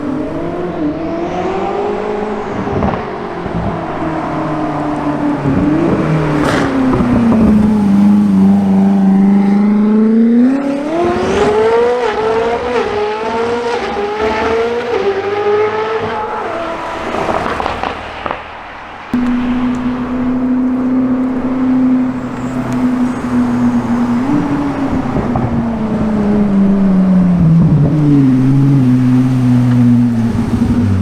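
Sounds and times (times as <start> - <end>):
sports car engine accelerating: 0.0 - 17.8, 19.1 - 31.0.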